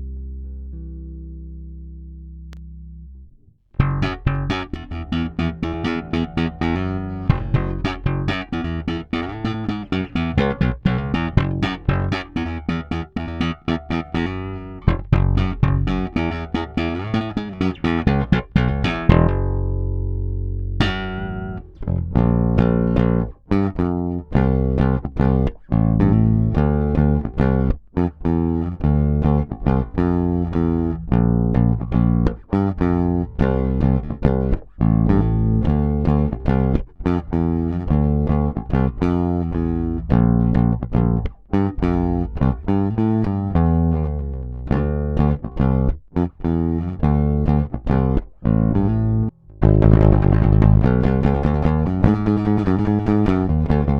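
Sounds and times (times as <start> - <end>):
bass guitar plucked notes: 0.0 - 53.9.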